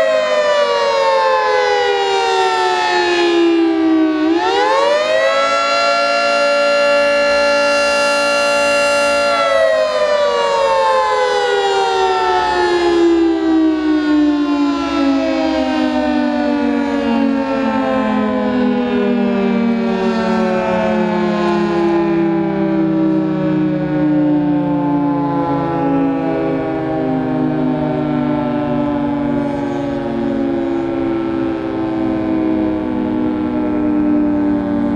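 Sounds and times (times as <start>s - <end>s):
three-tone warning siren: 0.0s - 34.9s.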